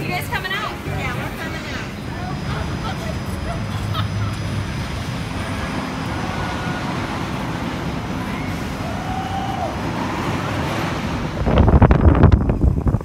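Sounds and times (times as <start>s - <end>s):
amusement park background noise: 0.0s - 13.0s.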